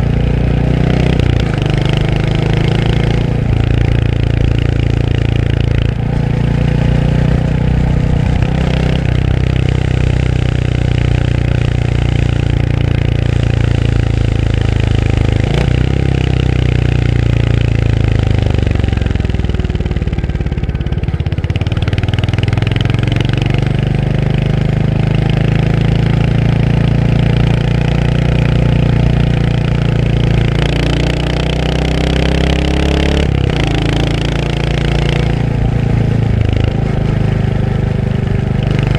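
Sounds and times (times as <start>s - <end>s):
single-cylinder motorcycle engine: 0.0s - 38.9s.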